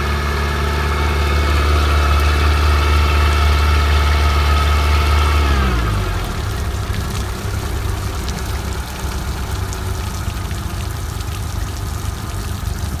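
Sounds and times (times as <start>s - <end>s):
outboard motor idling: 0.0s - 13.0s
water splashing and trickling: 0.0s - 13.0s.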